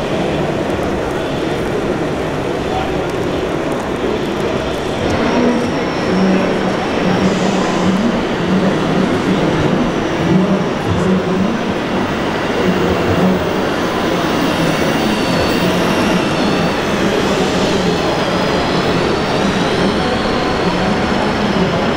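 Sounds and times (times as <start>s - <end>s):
busy exhibition hall din: 0.0s - 21.9s
model tractor whine: 0.0s - 21.9s.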